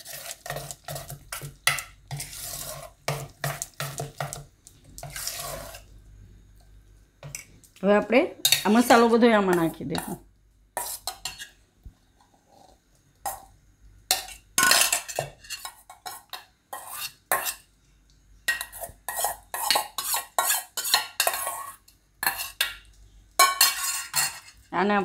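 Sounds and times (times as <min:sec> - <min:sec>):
spoon scraping against a pan: 0:00.0 - 0:06.0, 0:07.2 - 0:07.6, 0:08.4 - 0:13.5, 0:14.1 - 0:17.8, 0:18.4 - 0:24.8.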